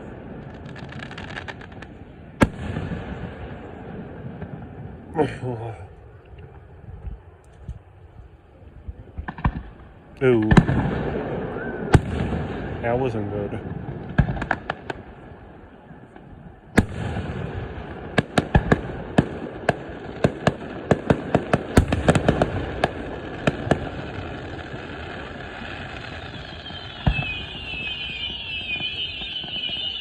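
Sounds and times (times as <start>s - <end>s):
firework cracks and bangs: 0.0s - 5.1s, 9.1s - 15.4s, 16.0s - 30.0s
firework booms: 0.0s - 5.4s, 8.8s - 30.0s.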